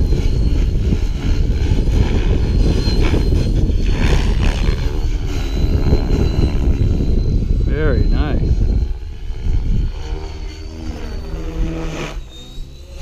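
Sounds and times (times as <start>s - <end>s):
rc helicopter flying: 0.0s - 13.0s
wind on microphone: 0.0s - 13.0s.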